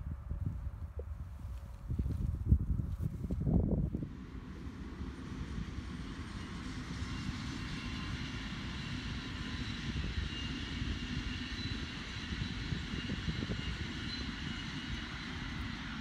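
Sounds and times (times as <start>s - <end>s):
train wheels rumbling on rails: 1.3s - 16.0s.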